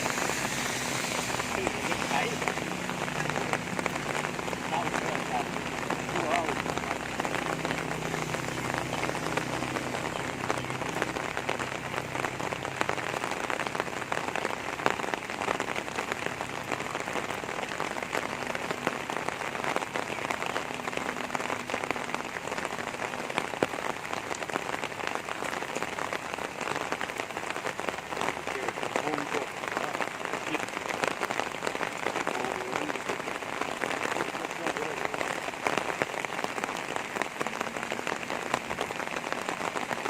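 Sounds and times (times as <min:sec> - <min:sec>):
rain pattering on surfaces: 0:00.0 - 0:40.0.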